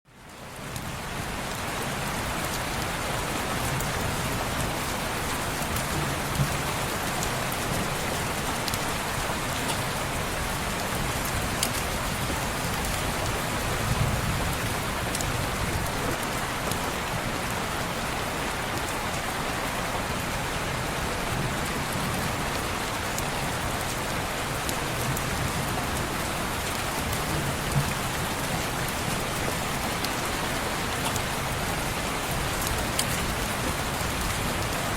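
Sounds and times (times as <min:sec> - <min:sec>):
heavy rain on window glass: 0:00.2 - 0:34.9.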